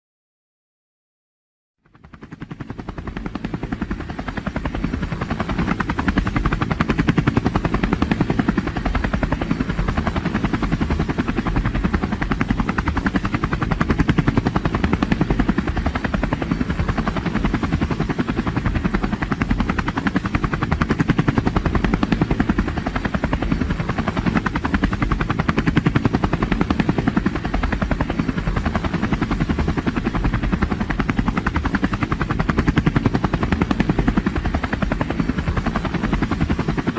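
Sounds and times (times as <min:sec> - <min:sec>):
helicopter rotor blades chopping: 0:01.8 - 0:36.9.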